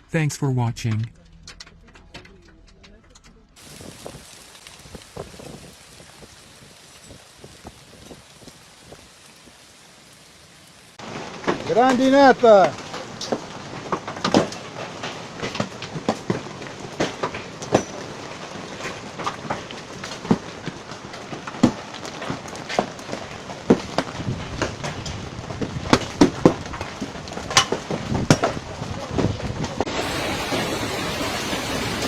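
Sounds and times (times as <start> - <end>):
hail and rain hissing: 3.6 - 32.0
hailstones knocking on hard surfaces: 3.6 - 32.0.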